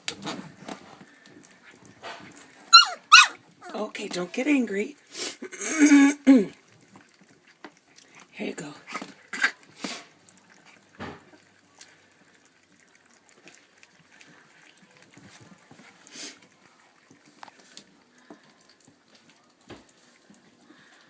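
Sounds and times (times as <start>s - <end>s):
puppies lapping and chewing: 0.0s - 21.0s.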